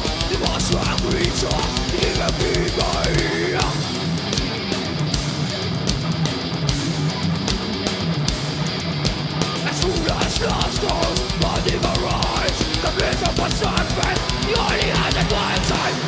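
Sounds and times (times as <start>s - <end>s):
distorted electric guitars riffing: 0.0s - 16.0s
drums: 0.0s - 16.0s.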